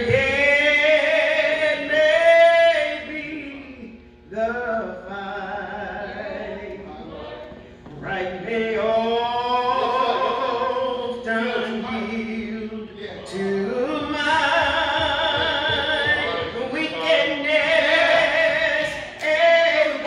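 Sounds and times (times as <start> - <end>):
woman singing unaccompanied: 0.0 - 6.9, 8.0 - 20.0.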